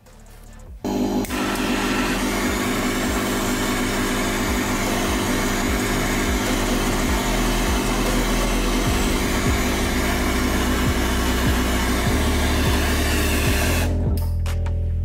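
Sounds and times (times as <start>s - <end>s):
gas torch burning: 0.9s - 13.9s.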